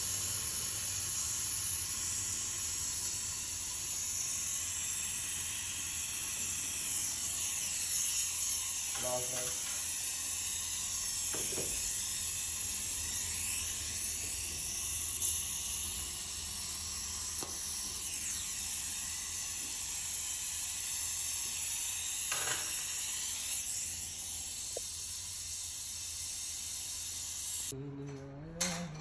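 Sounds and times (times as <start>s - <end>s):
torch flame hissing: 0.0s - 27.8s.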